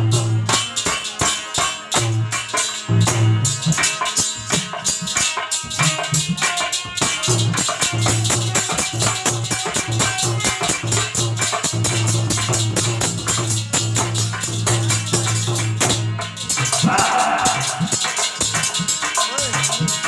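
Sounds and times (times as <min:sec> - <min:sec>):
rapid jingling percussion: 0:00.0 - 0:20.0.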